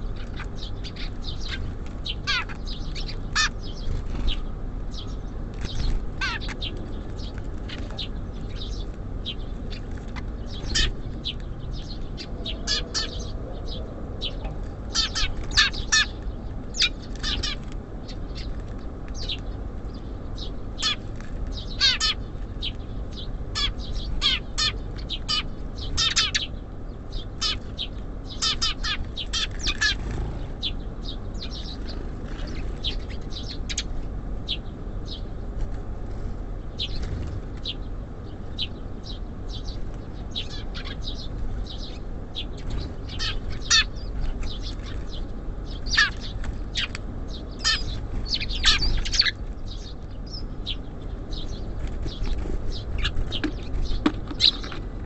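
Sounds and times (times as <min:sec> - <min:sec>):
small songbirds chirping: 0:00.0 - 0:55.0
steady low rumble: 0:00.0 - 0:55.0.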